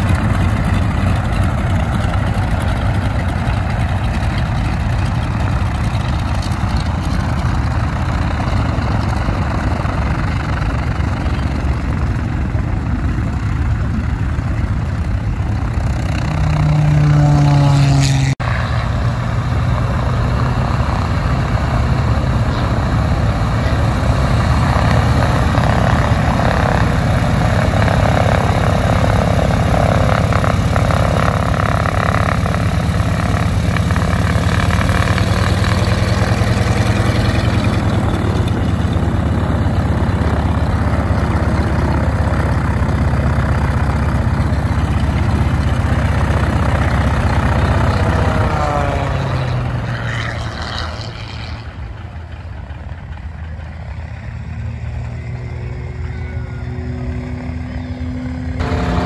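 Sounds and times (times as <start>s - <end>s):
radial aircraft engines idling: 0.0s - 17.0s, 18.5s - 59.0s.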